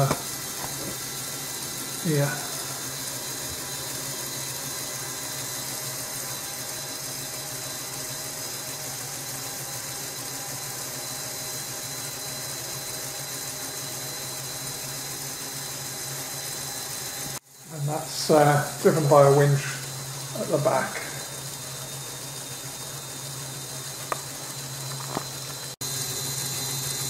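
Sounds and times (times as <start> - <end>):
electric motor and gears whirring: 0.0 - 27.0.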